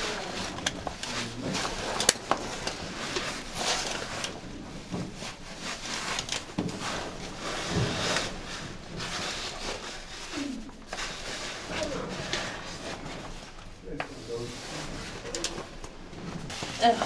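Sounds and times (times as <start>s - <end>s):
gear scraping against rock: 0.0s - 17.0s.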